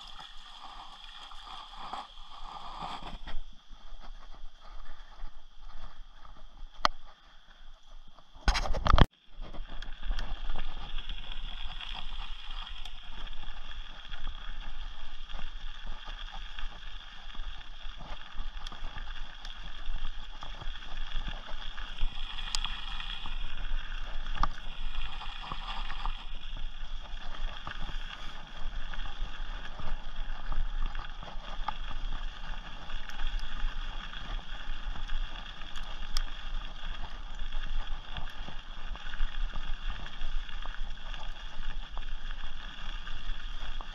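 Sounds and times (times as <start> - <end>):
tyre noise on gravel trail: 0.0 - 43.9.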